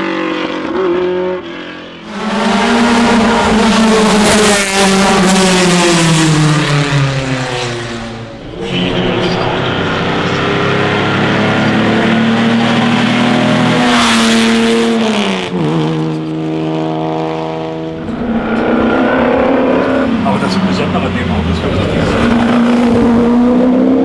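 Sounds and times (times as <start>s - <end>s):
racing car engine accelerating: 0.1s - 24.0s.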